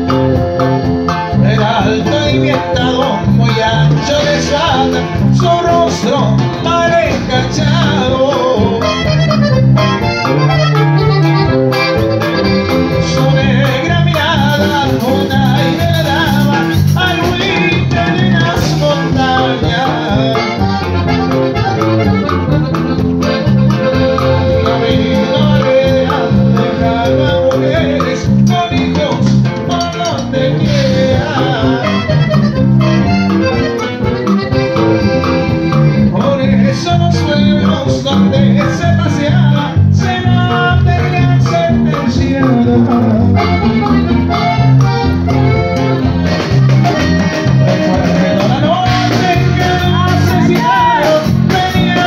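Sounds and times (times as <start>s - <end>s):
person singing: 0.0s - 22.4s, 23.7s - 33.3s, 34.7s - 52.0s
accordion and guitar music: 0.0s - 52.0s.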